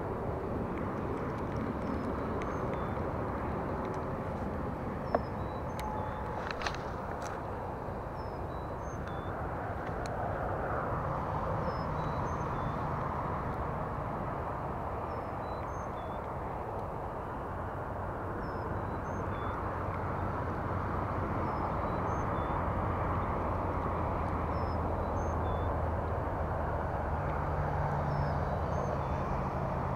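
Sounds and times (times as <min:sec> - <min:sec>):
distant traffic hum: 0:00.0 - 0:29.9.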